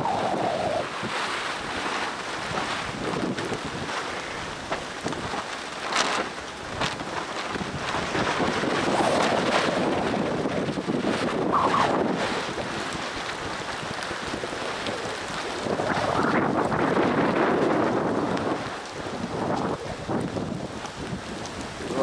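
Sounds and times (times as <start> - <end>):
gusty wind on microphone: 0.0 - 22.0
rain: 0.0 - 22.0.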